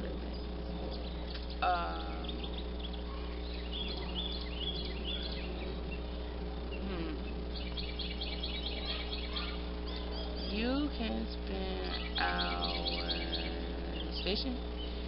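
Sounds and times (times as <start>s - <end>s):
small birds chirping: 0.0s - 15.0s
steady buzzing hum: 0.0s - 15.0s.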